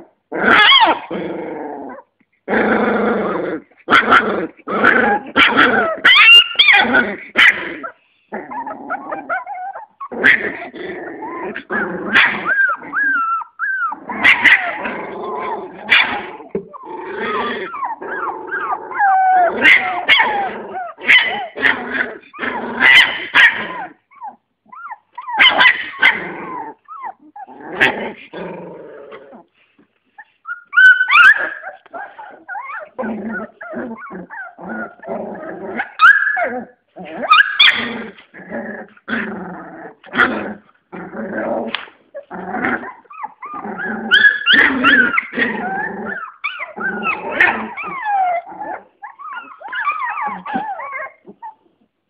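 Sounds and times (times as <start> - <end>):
puppies growling and yipping: 0.0 - 52.0.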